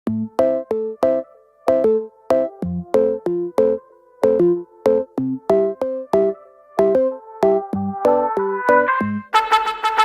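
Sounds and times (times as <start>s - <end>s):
synthesizer chords: 0.1s - 9.6s.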